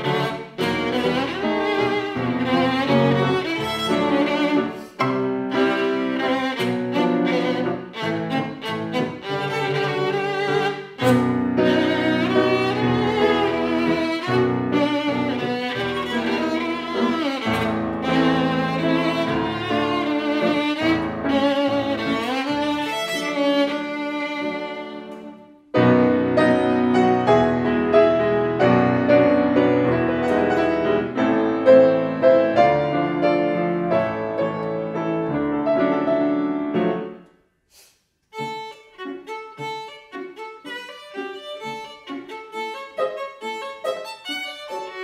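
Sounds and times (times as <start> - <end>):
solo violin: 0.0 - 37.1, 38.3 - 45.0
piano accompaniment: 0.0 - 37.4, 38.3 - 45.0.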